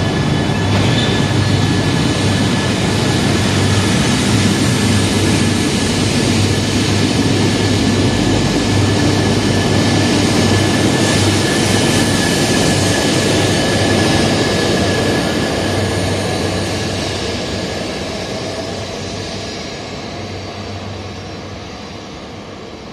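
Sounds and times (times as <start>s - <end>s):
high-speed train rushing past: 0.0s - 22.9s.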